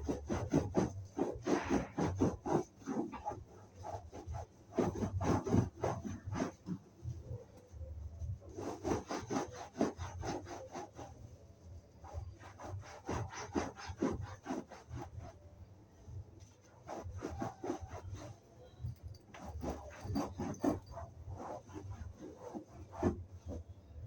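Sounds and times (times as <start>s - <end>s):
sponge scrubbing upholstery: 0.0s - 23.6s.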